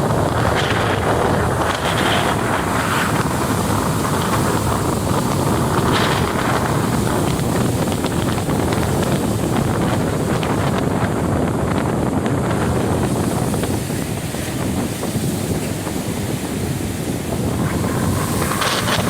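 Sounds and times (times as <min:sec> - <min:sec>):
waves breaking on shore: 0:00.0 - 0:19.0
wind buffeting microphone: 0:00.0 - 0:19.0.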